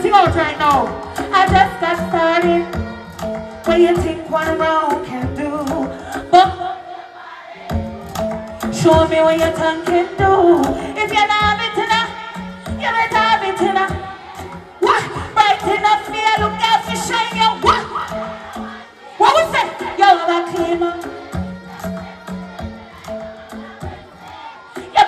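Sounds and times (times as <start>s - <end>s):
person singing: 0.0s - 7.0s, 7.8s - 25.0s
dancehall music over sound system: 0.0s - 25.0s.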